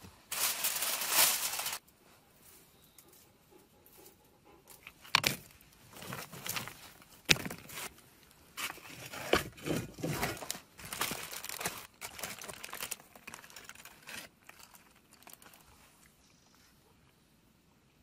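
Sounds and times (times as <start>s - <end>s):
crinkling and rustling: 0.0s - 2.6s, 4.7s - 16.7s.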